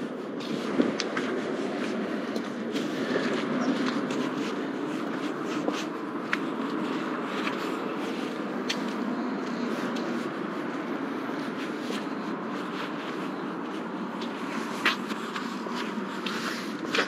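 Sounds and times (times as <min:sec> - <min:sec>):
rustling rumble: 0:00.0 - 0:17.0.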